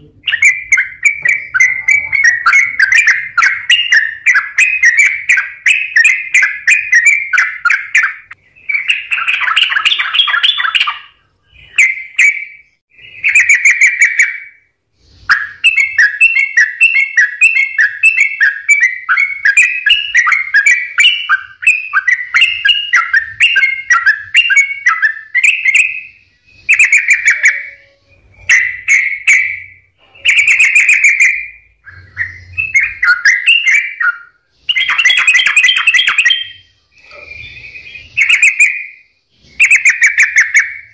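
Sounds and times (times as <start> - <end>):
bulbul singing: 0.0 - 40.9.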